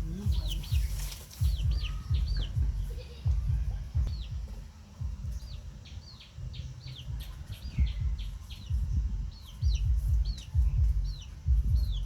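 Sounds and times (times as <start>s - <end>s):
low uneven rumble: 0.0s - 12.0s
small bird chirping: 0.0s - 12.0s.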